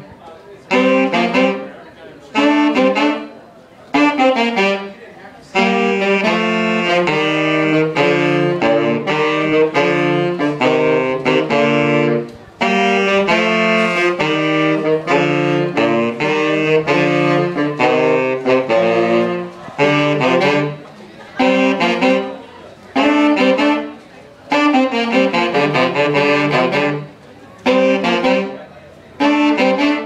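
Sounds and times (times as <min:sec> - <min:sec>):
two saxophones playing jazz: 0:00.0 - 0:30.0.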